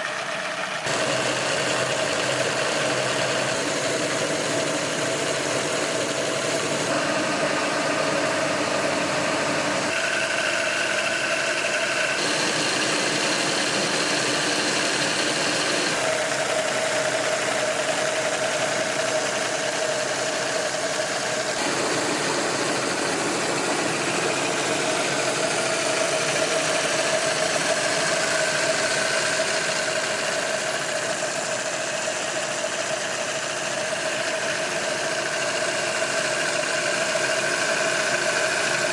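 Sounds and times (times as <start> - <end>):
mechanical rattle: 0.0 - 38.9
model engines running: 0.0 - 38.9.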